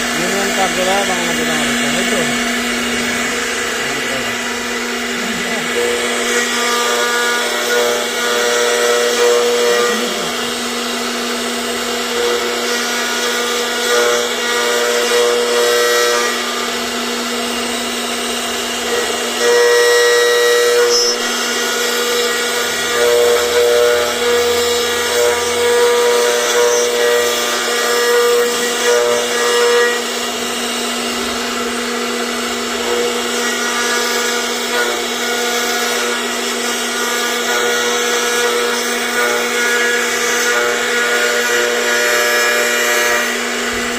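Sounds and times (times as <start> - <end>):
router bit cutting material: 0.0 - 43.9
router spindle humming: 0.0 - 43.9.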